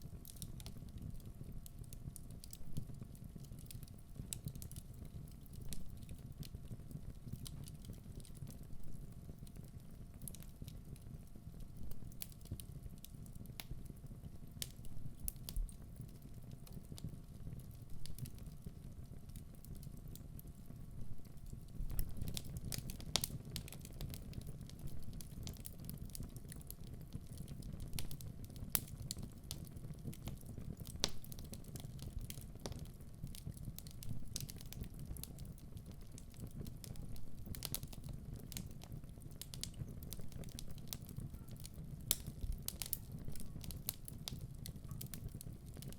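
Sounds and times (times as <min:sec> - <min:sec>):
logs crackling and popping: 0:00.0 - 0:45.9
wood fire burning: 0:00.0 - 0:45.9.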